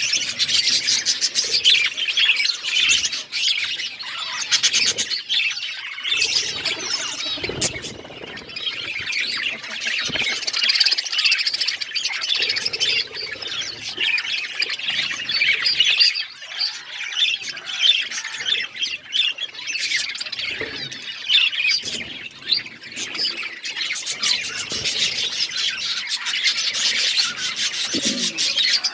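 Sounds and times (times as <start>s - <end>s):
budgerigars chirping and squawking: 0.0s - 28.9s.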